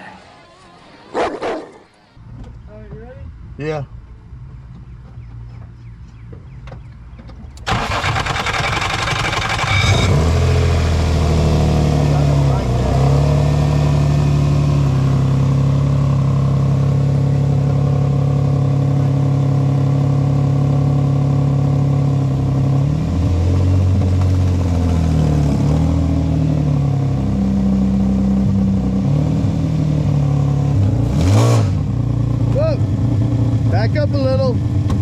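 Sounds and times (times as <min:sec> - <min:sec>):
car engine running: 0:04.0 - 0:35.0.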